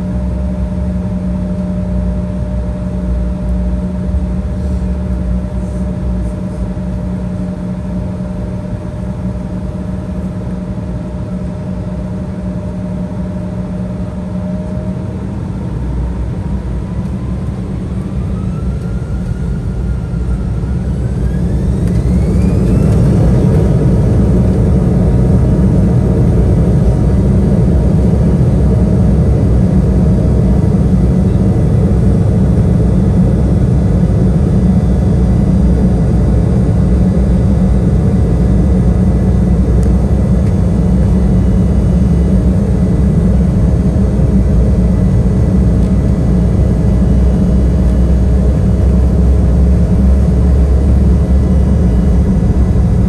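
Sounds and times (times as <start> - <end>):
engine whine rising in pitch: 0.0 - 53.0
jet engines humming in cabin: 0.0 - 53.0.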